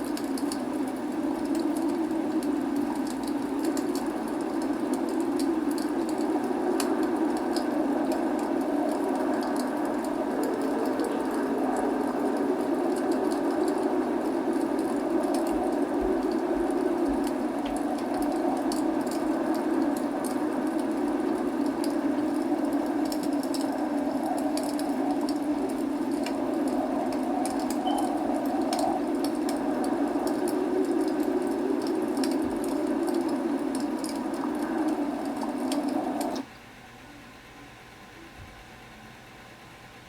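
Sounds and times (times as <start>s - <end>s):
low rushing noise: 0.0s - 36.4s
log fire crackling: 0.0s - 36.5s.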